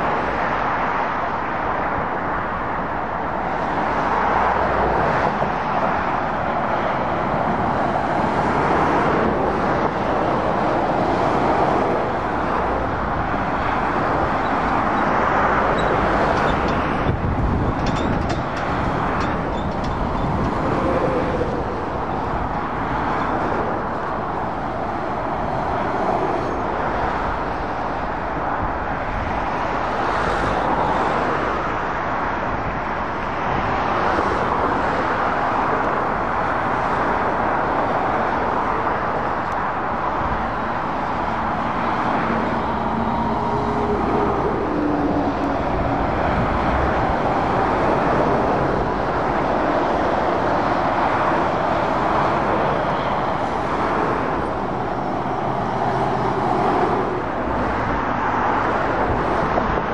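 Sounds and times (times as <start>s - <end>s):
heavy diesel engines droning: 0.0s - 59.9s
motorway traffic rumble: 0.0s - 59.9s.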